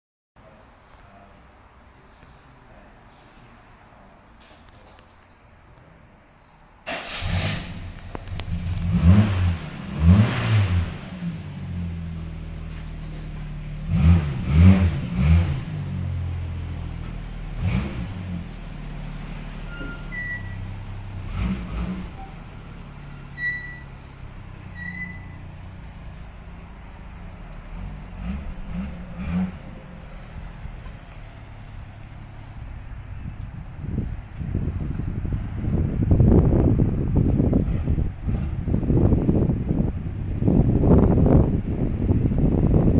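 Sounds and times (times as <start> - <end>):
car engine starting and revving: 6.8 - 42.9.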